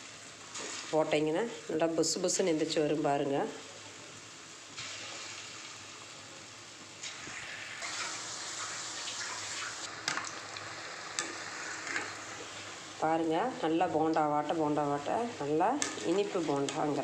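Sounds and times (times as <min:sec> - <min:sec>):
fritters sizzling in hot oil: 0:00.0 - 0:17.0.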